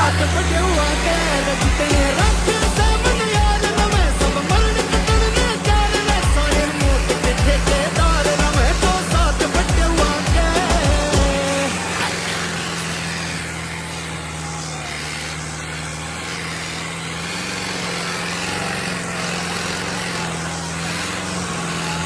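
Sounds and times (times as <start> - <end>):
noisy rattle: 0.0 - 22.0
tractor diesel engine running: 0.0 - 22.0.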